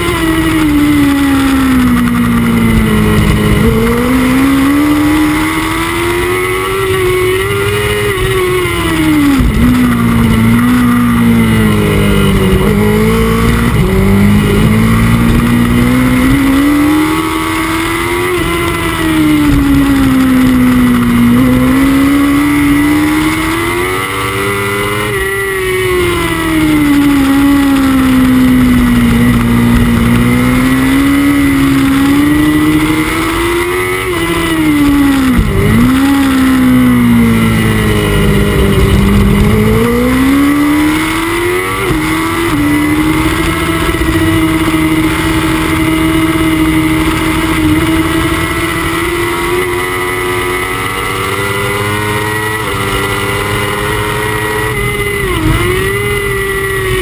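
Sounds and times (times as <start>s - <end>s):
motorcycle engine at racing speed: 0.0s - 57.0s.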